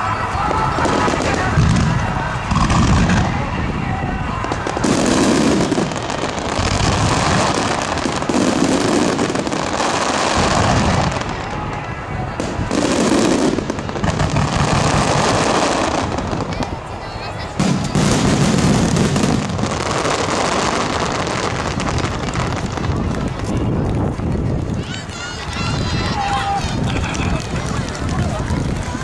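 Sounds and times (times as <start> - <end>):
fireworks booming: 0.0 - 29.0
fireworks crackling: 0.0 - 29.0.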